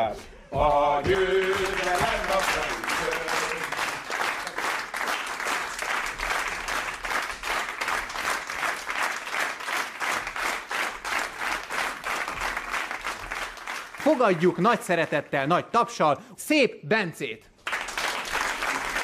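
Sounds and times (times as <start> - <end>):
audience applauding: 1.0 - 15.3, 17.6 - 19.0.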